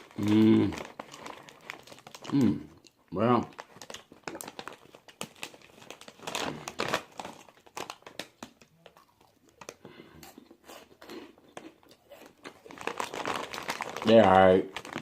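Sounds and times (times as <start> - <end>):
chips crunching: 0.0 - 15.0
snack bag crinkling: 0.0 - 15.0.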